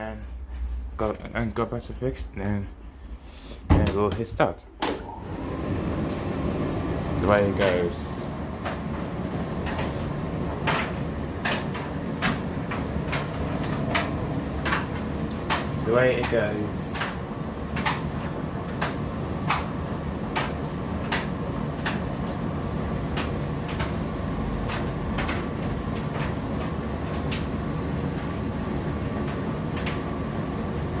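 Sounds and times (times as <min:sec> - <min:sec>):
tumble dryer drum rumbling: 0:03.7 - 0:31.0.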